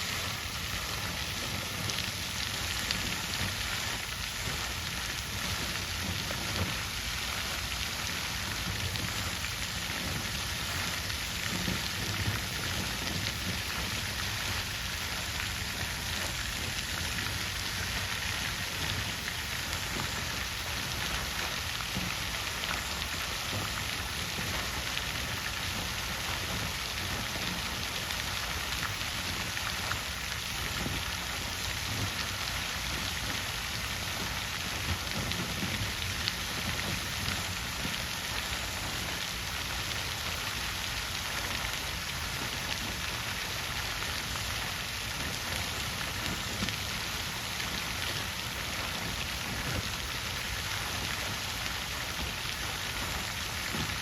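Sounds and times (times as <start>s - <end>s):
water drips and splashes: 0.0s - 54.0s
water fountain splashing: 0.0s - 54.0s.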